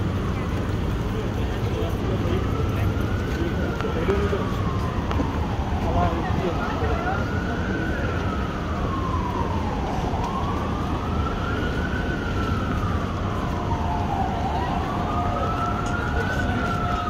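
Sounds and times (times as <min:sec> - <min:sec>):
city street noise: 0:00.0 - 0:17.0
emergency siren wailing: 0:00.0 - 0:17.0.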